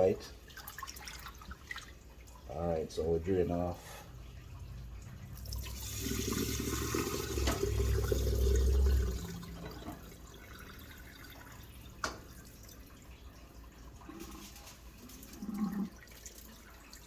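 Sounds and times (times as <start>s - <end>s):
water pouring into sink: 0.0s - 3.0s, 3.8s - 17.0s.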